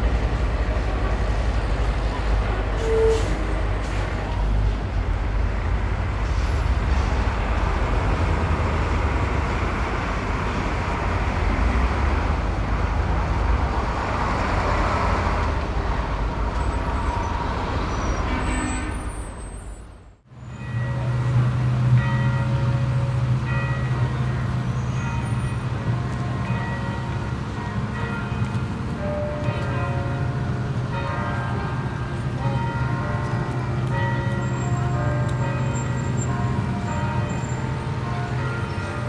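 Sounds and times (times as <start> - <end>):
passing cars with deep rumble: 0.0 - 39.0.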